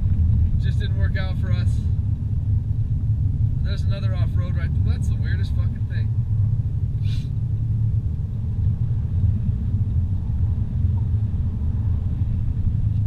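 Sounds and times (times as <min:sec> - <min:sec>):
car driving on highway rumble: 0:00.0 - 0:13.0.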